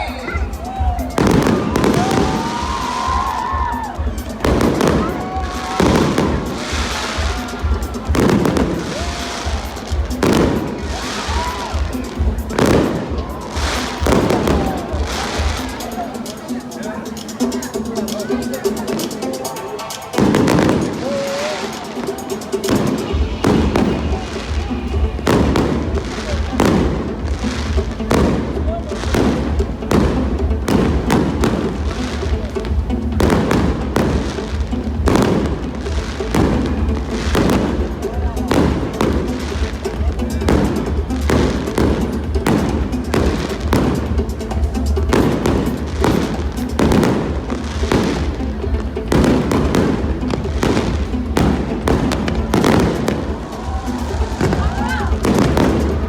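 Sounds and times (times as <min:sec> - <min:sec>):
fireworks bursting and crackling: 0:00.0 - 0:56.0
music with bass beat: 0:00.0 - 0:56.0.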